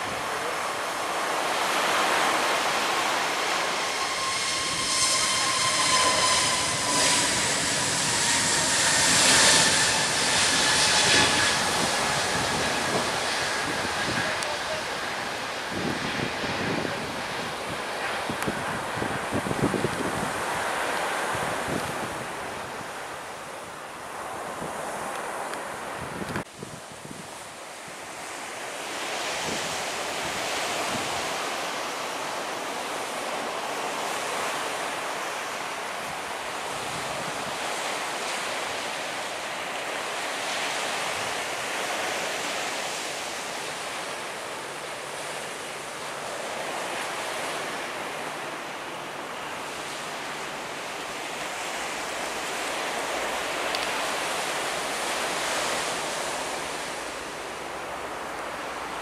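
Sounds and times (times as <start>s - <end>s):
surf breaking on beach: 0.0s - 59.0s
wind gusting on microphone: 0.0s - 59.0s.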